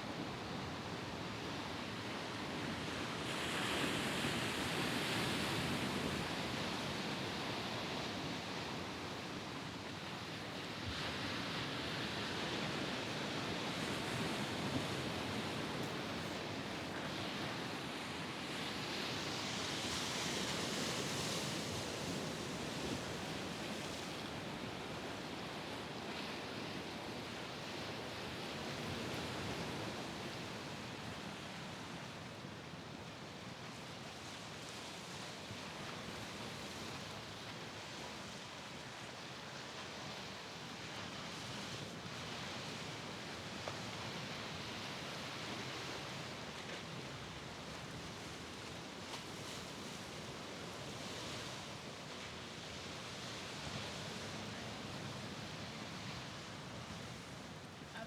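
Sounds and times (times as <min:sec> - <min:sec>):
sea surf on shore: 0:00.0 - 0:58.0.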